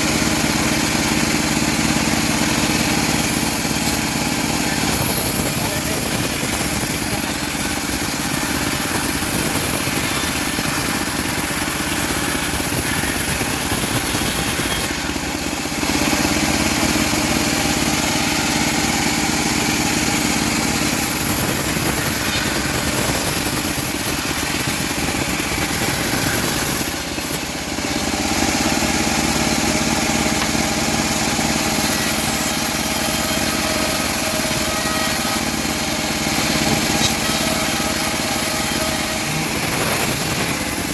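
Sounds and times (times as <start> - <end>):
bandsaw mill engine sawing wood: 0.0 - 40.9.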